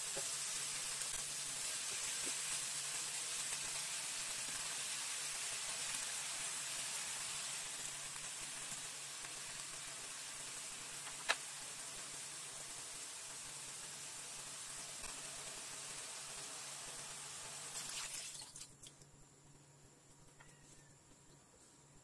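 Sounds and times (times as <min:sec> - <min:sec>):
food sizzling in oil: 0:00.0 - 0:18.8.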